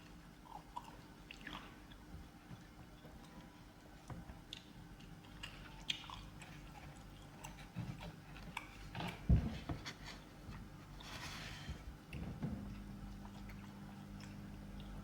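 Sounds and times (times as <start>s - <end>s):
chewing food: 0.0s - 9.4s, 11.9s - 15.0s.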